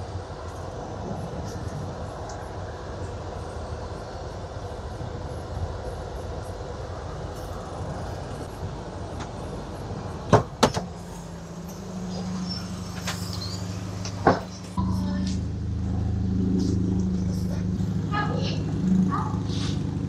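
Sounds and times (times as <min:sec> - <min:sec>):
small car engines running: 0:00.0 - 0:20.0.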